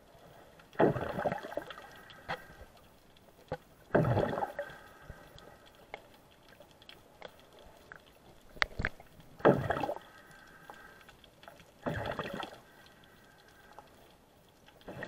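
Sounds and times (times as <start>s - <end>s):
underwater gurgling swishes: 0.0s - 15.0s.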